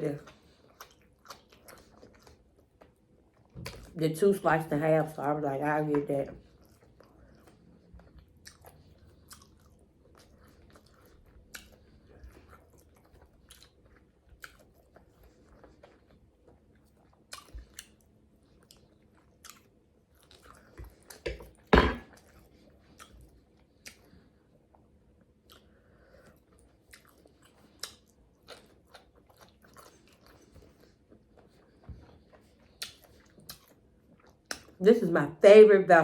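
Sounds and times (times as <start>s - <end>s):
chewing and lip-smacking: 0.2s - 4.0s, 6.4s - 34.8s.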